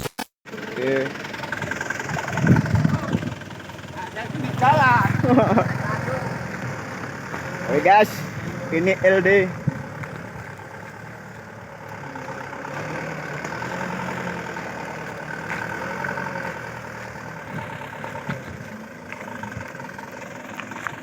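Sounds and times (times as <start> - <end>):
truck diesel engine running: 0.5 - 21.0.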